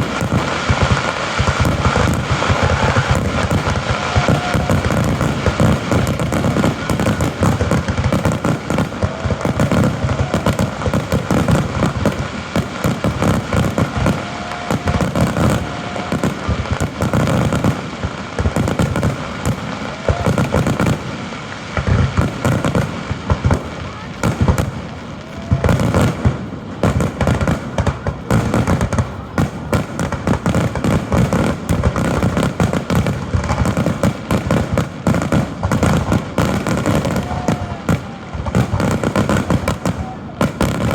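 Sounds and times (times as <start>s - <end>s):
fireworks bursts and crackling: 0.0s - 40.9s.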